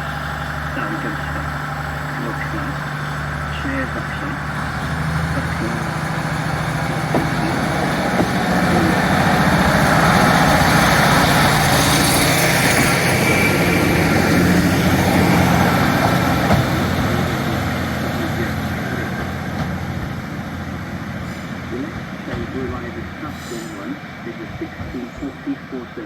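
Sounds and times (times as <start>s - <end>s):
diesel train engine running: 0.0s - 26.0s.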